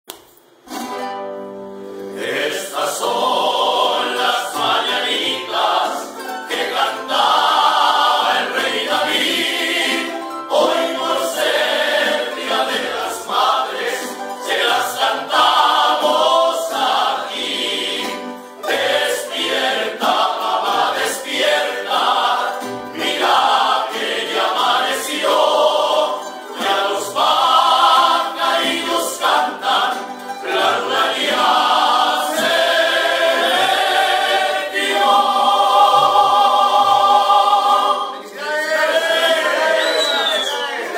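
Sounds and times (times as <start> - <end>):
group of voices singing: 2.1 - 40.9.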